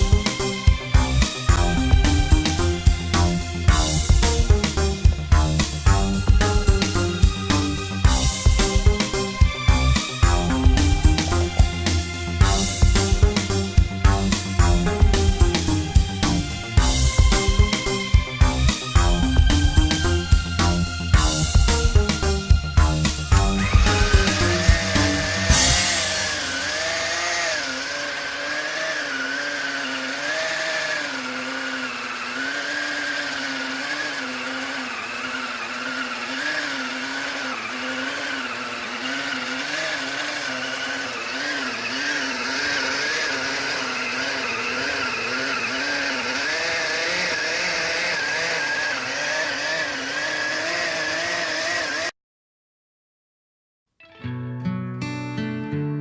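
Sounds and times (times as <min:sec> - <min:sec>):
mixer grinder motor whine: 0:00.0 - 0:52.2.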